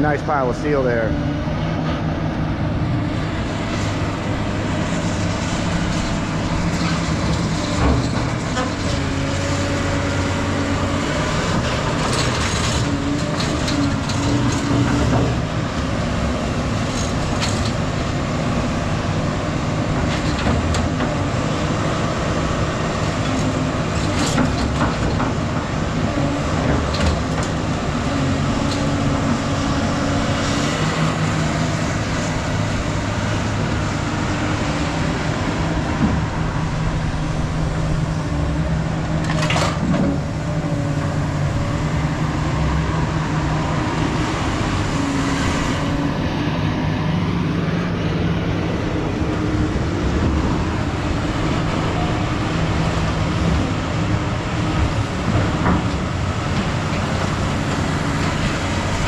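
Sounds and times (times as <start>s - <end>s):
heavy diesel machine running: 0.0s - 59.0s.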